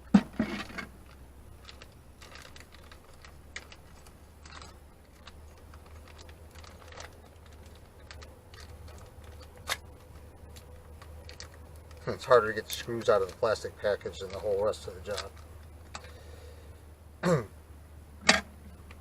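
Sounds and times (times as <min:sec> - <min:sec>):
faint low hum: 0:00.0 - 0:19.0
plastic package rustling: 0:00.6 - 0:16.3.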